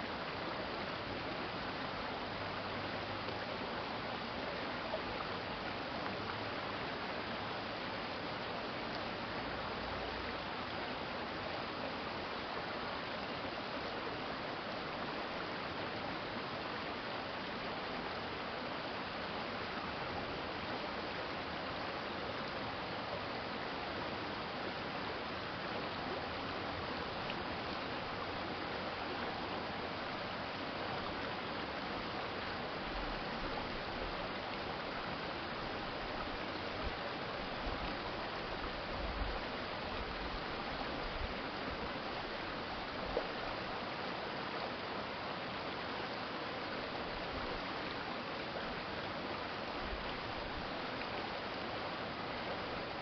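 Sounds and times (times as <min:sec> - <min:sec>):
shallow stream flowing: 0:00.0 - 0:53.0.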